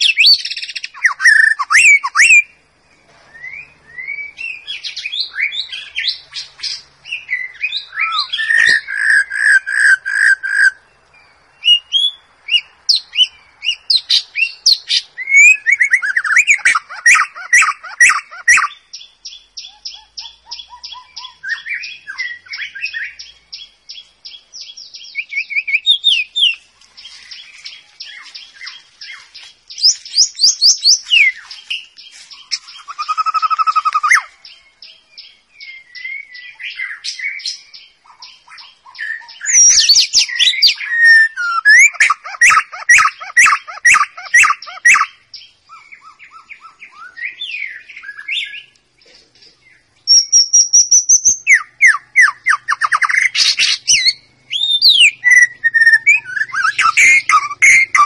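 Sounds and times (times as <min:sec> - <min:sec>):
bird singing whistled phrases: 0:00.0 - 0:02.6, 0:03.2 - 0:10.8, 0:11.6 - 0:26.6, 0:27.3 - 0:34.6, 0:35.2 - 0:48.7, 0:50.1 - 0:58.0.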